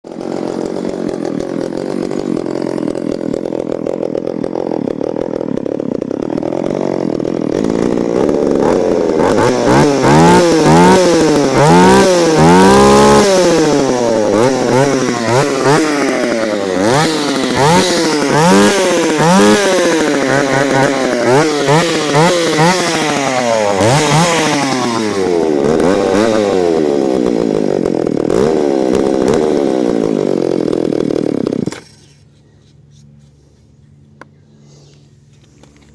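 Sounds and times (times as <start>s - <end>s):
chainsaw idling and revving: 0.0s - 32.2s.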